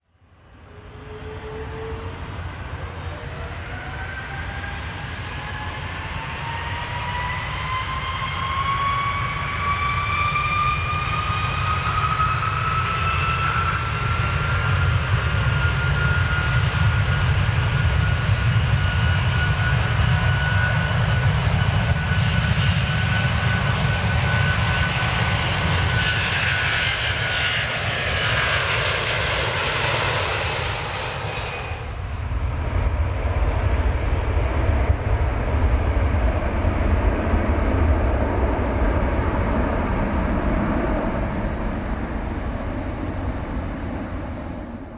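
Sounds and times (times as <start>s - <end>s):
airplane engines rumble and whine: 0.0s - 44.9s.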